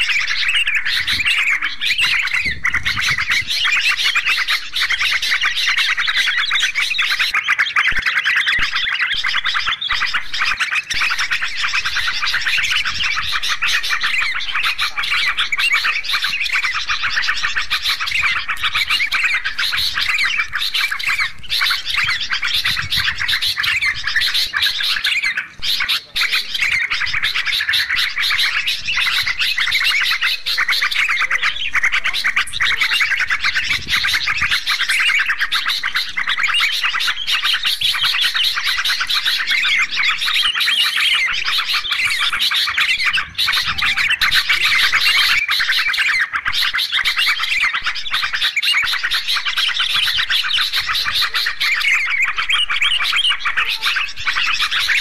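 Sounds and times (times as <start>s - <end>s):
chorus of birds chattering: 0.0s - 55.0s.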